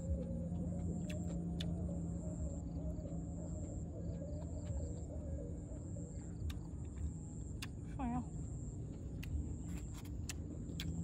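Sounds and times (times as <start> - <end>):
low even hum: 0.0 - 11.0.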